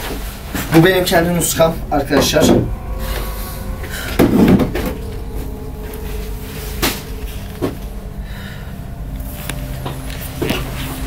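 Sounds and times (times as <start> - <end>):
low held tones drone: 0.0 - 11.0.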